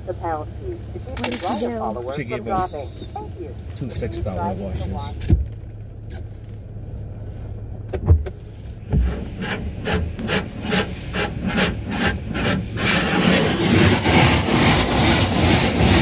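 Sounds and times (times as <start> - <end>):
car wash water jets on car: 3.1 - 16.0.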